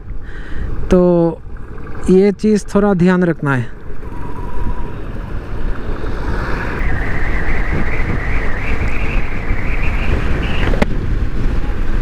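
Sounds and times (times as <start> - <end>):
road noise: 0.0 - 12.0
wind buffeting microphone: 0.0 - 12.0
wavering high whine: 0.8 - 10.8
motorcycle engine: 1.3 - 12.0.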